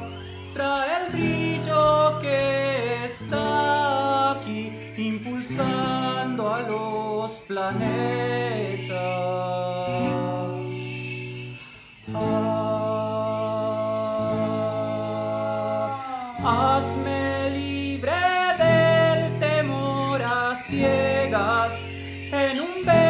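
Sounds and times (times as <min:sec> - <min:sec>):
acoustic guitar: 0:00.0 - 0:23.0
tiple strumming: 0:00.0 - 0:23.0
wordless vocal notes: 0:00.0 - 0:23.0.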